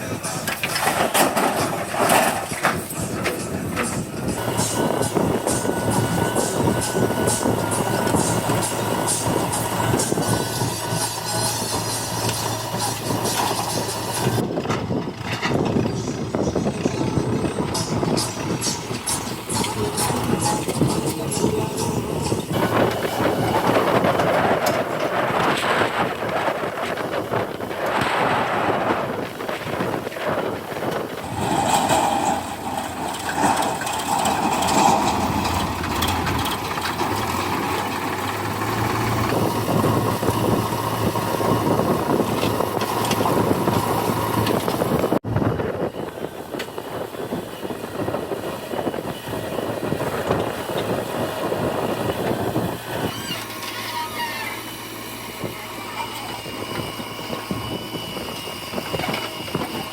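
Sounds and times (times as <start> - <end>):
backhoe diesel engine running: 0.0 - 59.9.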